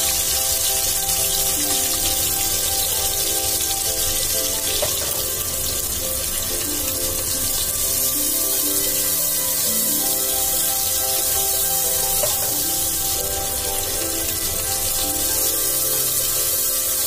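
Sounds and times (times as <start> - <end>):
onions sizzling in hot oil: 0.0 - 17.0
soft background music: 0.0 - 17.0.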